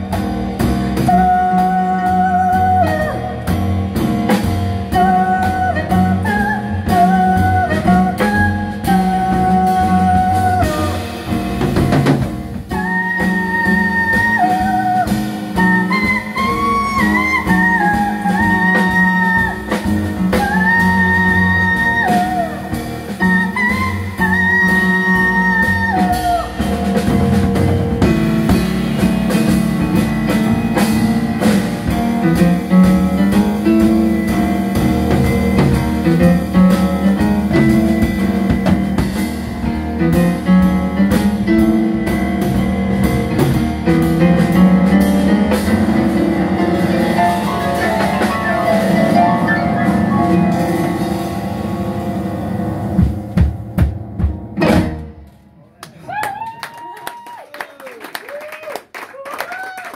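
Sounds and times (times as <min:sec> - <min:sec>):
plucked double bass: 0:00.0 - 0:55.3
drum kit with cymbals: 0:00.0 - 0:55.5
grand piano: 0:00.0 - 0:55.8.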